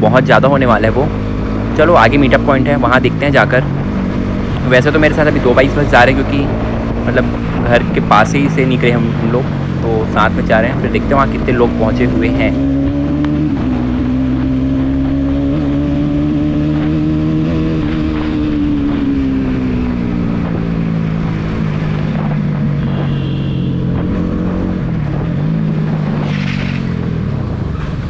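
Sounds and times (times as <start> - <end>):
motorcycle engine running: 0.0 - 27.7.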